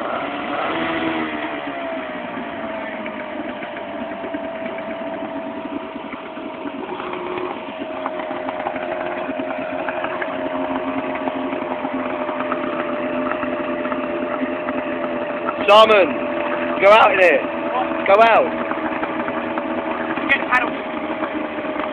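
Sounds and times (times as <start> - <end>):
small outboard motor running: 0.0 - 21.9.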